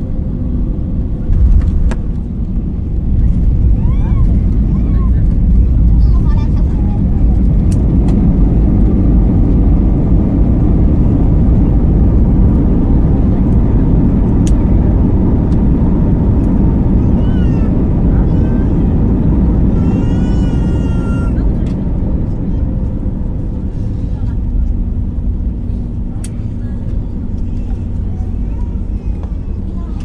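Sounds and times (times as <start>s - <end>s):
aircraft cabin rumble on runway: 0.0s - 30.0s.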